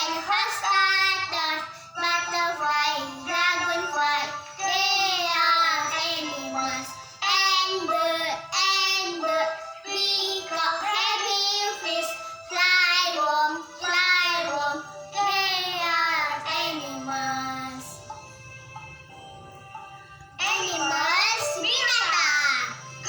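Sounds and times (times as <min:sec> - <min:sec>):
girl singing: 0:00.0 - 0:18.1, 0:20.4 - 0:23.0
musical accompaniment: 0:00.0 - 0:23.0.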